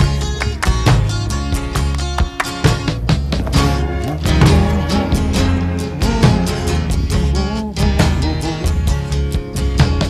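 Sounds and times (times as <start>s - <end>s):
song with guitar and beat: 0.0s - 10.0s.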